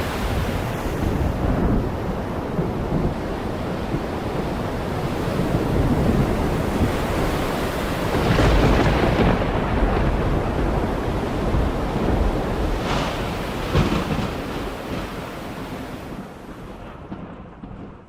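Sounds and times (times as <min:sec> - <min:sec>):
heavy rain pouring: 0:00.0 - 0:17.5.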